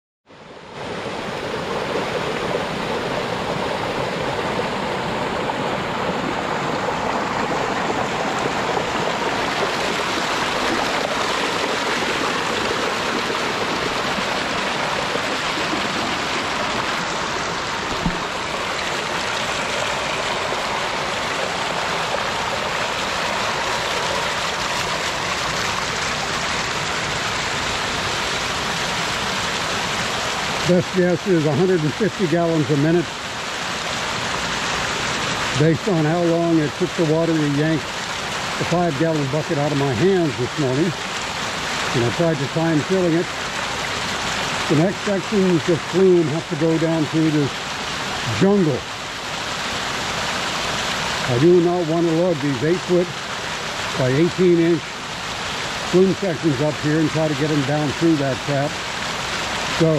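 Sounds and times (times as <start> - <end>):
creek water rushing: 0.3 - 59.9.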